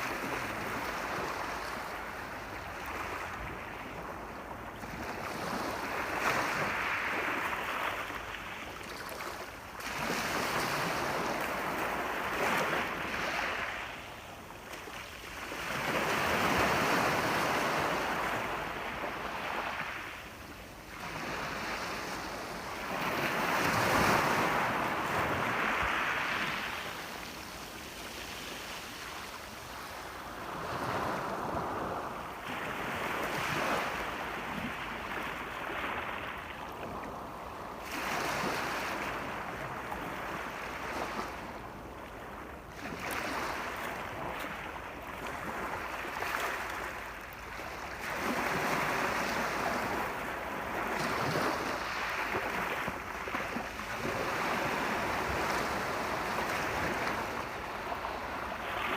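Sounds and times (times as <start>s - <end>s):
sea waves breaking on shore: 0.0s - 58.9s.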